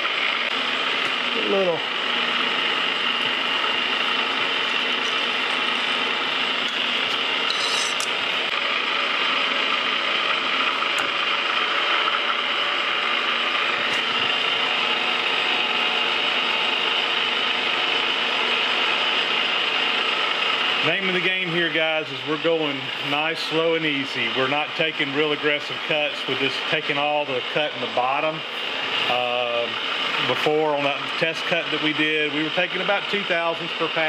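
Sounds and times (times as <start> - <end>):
metal lathe whirring: 0.0 - 34.0.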